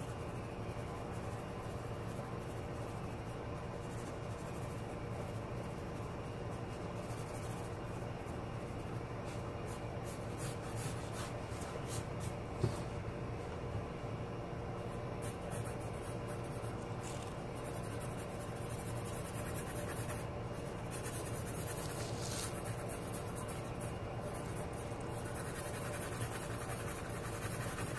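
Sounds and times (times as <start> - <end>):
pencil scratching on paper: 0.0 - 11.4, 15.2 - 27.9
steady low hum: 0.0 - 27.9.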